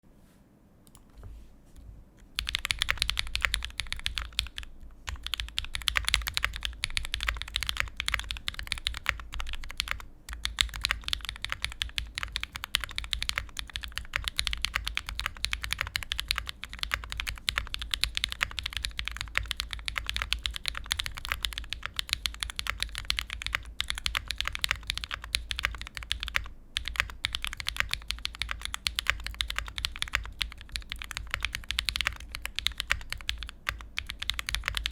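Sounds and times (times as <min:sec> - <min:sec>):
fast typing on mechanical keyboard: 0:02.3 - 0:34.9.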